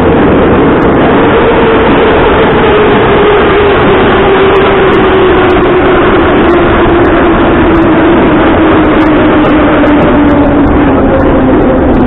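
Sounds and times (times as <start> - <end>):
train motor whine: 0.0 - 12.0
train wheels rumbling on rails: 0.0 - 12.0.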